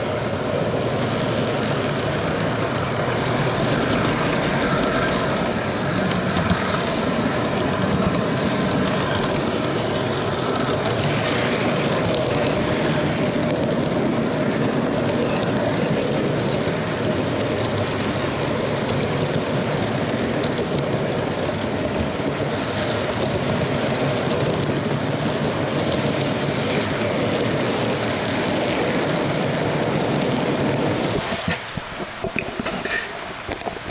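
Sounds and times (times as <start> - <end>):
model train rolling rumble: 0.0 - 33.9.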